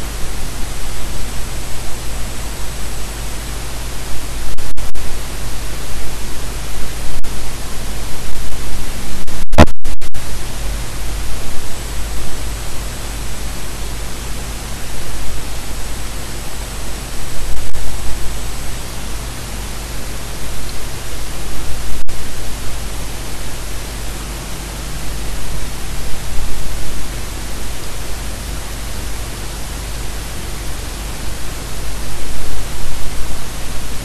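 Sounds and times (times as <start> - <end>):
loud static-like noise: 0.0 - 34.0.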